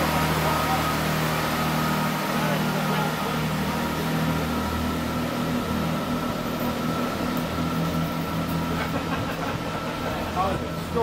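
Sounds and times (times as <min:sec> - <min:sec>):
diesel engines droning: 0:00.0 - 0:11.0
thin steady whine: 0:00.0 - 0:11.0.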